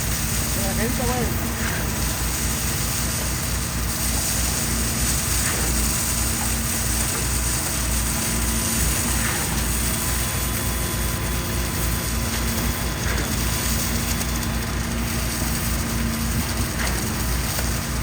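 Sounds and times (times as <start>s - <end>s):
heavy truck engine throbbing: 0.0s - 18.0s.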